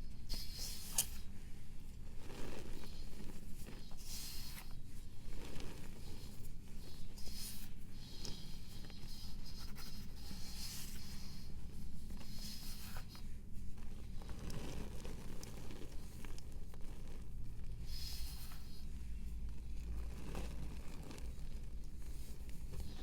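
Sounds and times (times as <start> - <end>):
scraping of pressed powder: 0.0 - 23.0.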